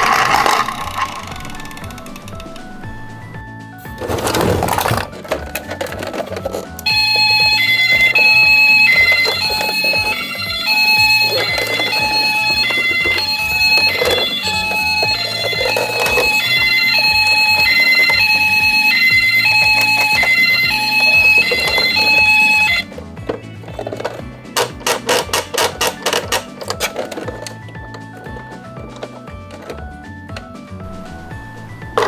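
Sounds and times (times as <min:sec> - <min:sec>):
toy ambulance two-tone siren: 0:00.0 - 0:03.4, 0:04.2 - 0:32.0.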